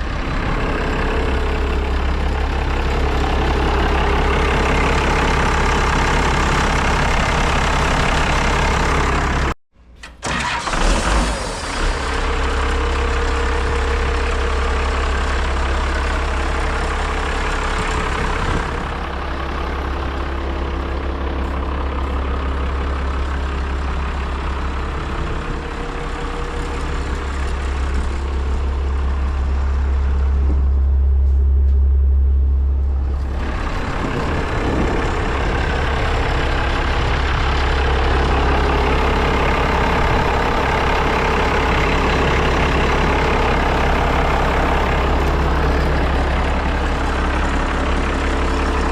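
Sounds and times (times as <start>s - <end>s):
wood chipper diesel engine humming: 0.0s - 48.9s.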